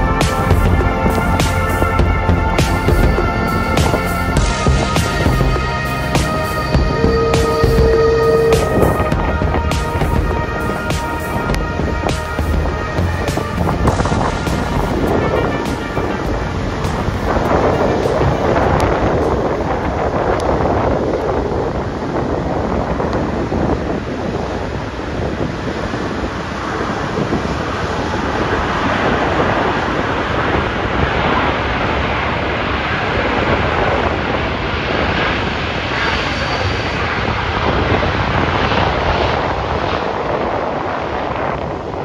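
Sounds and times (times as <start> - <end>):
jet engines rushing: 0.0 - 42.0
wind buffeting microphone: 0.0 - 42.0.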